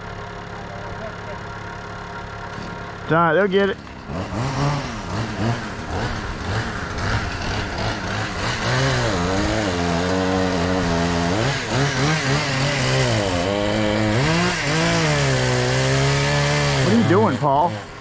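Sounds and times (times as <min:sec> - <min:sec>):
gasoline engine revving: 0:00.0 - 0:18.0.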